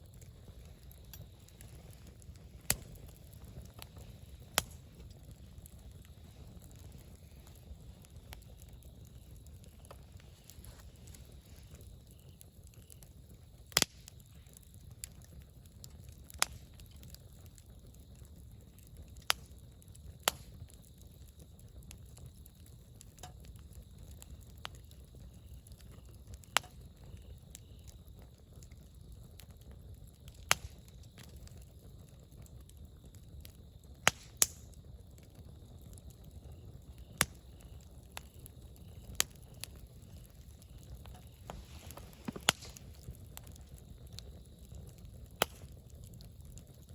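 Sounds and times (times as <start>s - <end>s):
campfire crackling and popping: 0.0s - 46.9s
low steady fire rumble: 0.0s - 46.9s.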